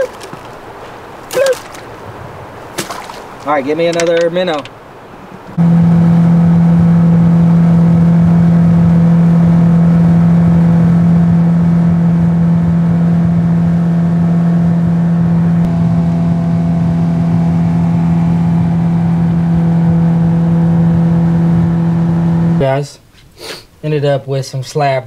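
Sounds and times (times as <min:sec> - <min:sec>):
outboard motor running: 0:00.0 - 0:04.6, 0:05.3 - 0:22.6.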